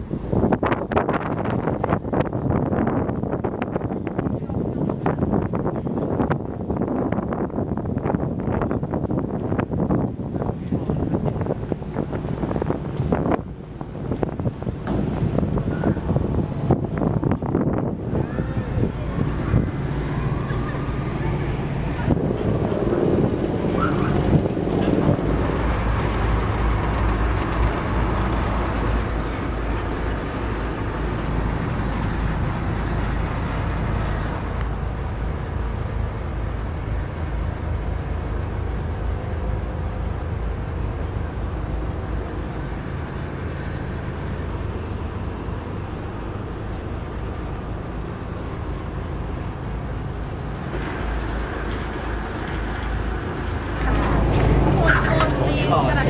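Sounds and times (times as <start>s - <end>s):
boat engine rumble and hum: 0.0s - 56.0s.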